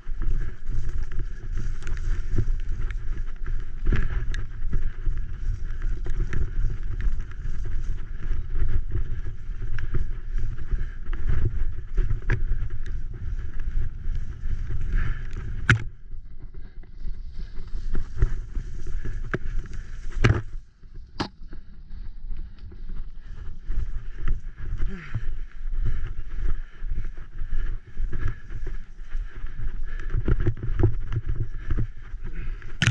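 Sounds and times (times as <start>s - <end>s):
bicycle rattling on dirt trail: 0.0s - 32.9s.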